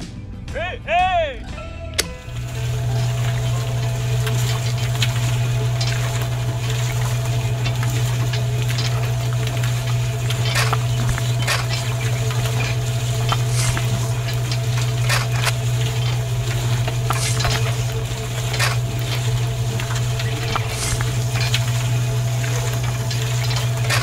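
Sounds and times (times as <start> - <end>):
electric motor humming: 2.0 - 24.0
sand hissing over a screen: 2.4 - 24.0.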